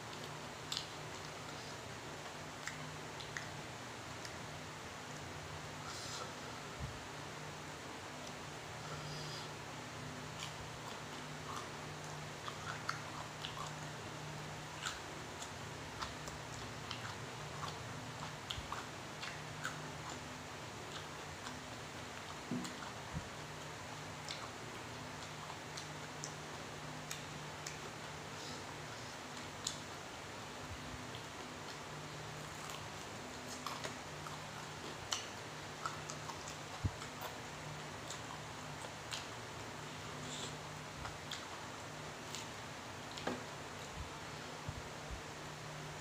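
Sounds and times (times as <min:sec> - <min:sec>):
man chewing wetly: 0:00.0 - 0:06.6, 0:08.2 - 0:44.8
low steady hum: 0:00.0 - 0:46.0.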